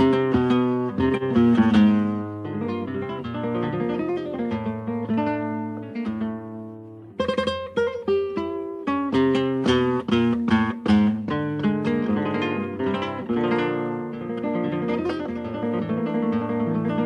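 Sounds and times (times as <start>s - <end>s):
acoustic guitar plucked notes: 0.0s - 17.0s
guitar strummed chords: 0.0s - 17.0s.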